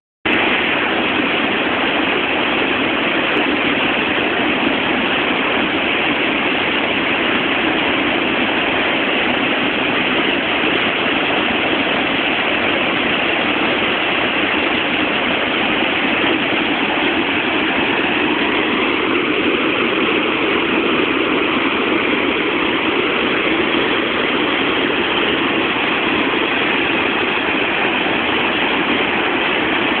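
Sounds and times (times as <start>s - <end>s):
waterfall rushing: 0.3s - 30.0s.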